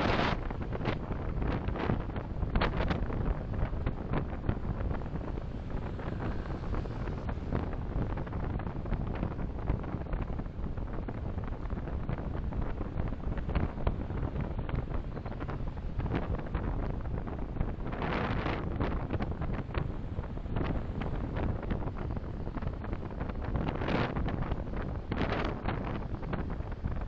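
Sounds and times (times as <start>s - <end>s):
road and engine rumble: 0.0s - 27.0s.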